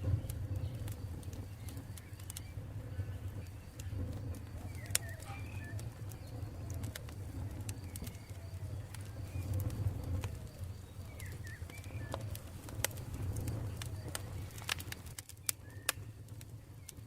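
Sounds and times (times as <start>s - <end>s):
birds calling faintly: 0.0s - 17.0s
campfire wood crackling and popping: 0.0s - 17.0s
low fire rumble: 0.0s - 17.0s.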